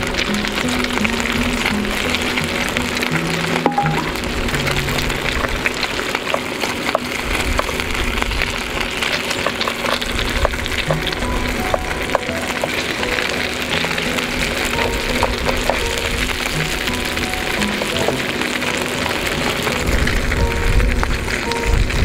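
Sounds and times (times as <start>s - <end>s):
fat crackling and popping: 0.0s - 22.0s
meat sizzling on griddle: 0.0s - 22.0s
soft background music: 0.0s - 22.0s.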